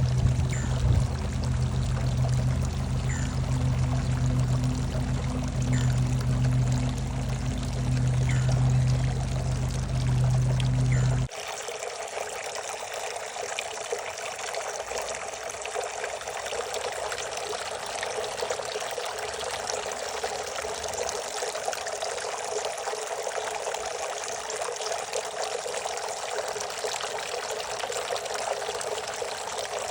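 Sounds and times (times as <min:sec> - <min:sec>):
fountain water pouring: 0:00.0 - 0:29.9.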